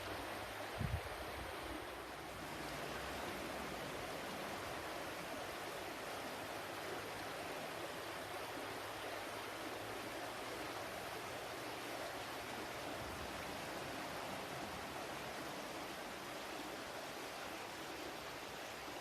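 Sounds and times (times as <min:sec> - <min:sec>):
water flowing: 0:00.0 - 0:19.0.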